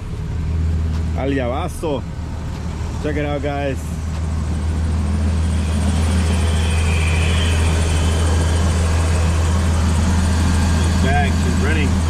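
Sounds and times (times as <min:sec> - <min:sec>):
van engine idling: 0:00.0 - 0:12.0.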